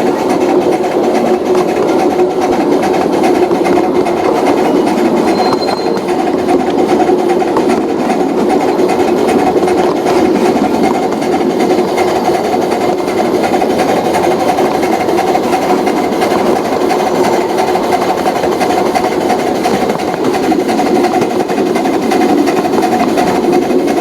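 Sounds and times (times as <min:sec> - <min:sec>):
model train motor humming: 0:00.0 - 0:24.0
wheels clicking on track: 0:00.0 - 0:24.0.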